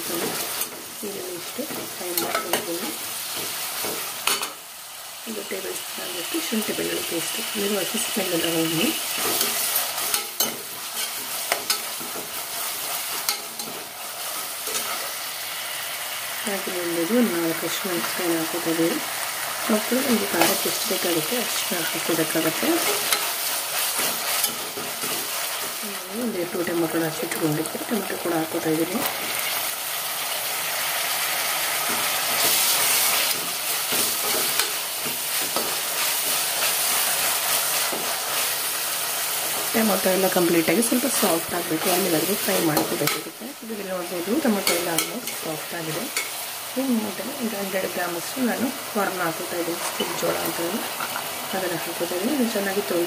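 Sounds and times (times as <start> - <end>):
onions sizzling in hot oil: 0.0 - 53.0.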